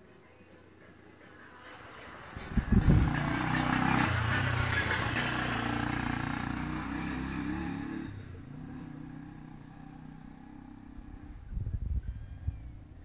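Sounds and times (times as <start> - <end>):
vehicle engine passing: 1.4 - 12.0.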